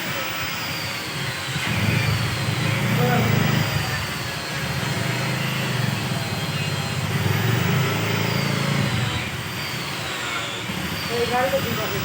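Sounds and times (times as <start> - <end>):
mechanical rumble with hiss: 0.0 - 12.0.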